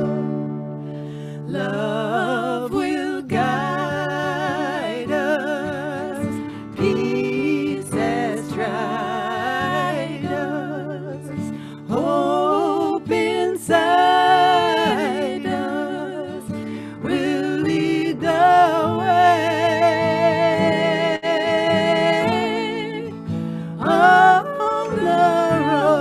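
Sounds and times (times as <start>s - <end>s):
soft musical accompaniment: 0.0s - 26.0s
voices singing slow song: 0.0s - 26.0s.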